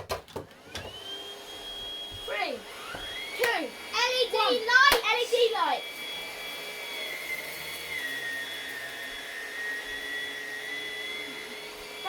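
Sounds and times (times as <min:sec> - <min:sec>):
vacuum cleaner motor whine: 0:00.5 - 0:12.0.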